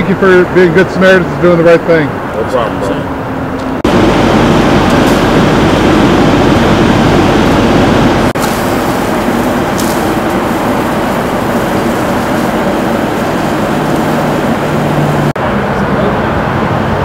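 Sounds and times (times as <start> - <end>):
fire engine pump rumbling: 0.0 - 17.0
low hum: 2.9 - 17.0
water stream rushing: 3.1 - 17.0.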